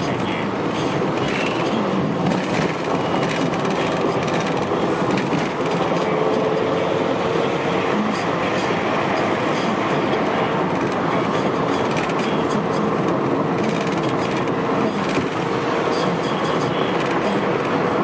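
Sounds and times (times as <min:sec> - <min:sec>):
car road noise: 0:00.0 - 0:18.0.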